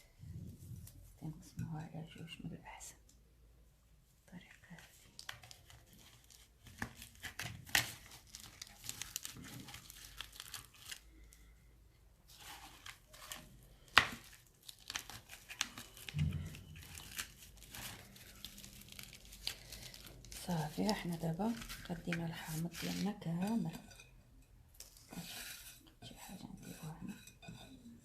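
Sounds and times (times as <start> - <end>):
rustling crinkling scrapes: 4.6 - 11.6, 12.2 - 28.0.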